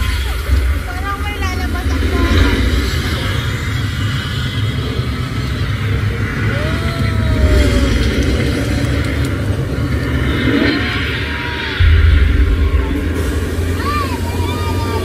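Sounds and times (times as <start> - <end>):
boat rumble and rushing water: 0.0 - 15.0
gas flames bursting: 0.0 - 15.0.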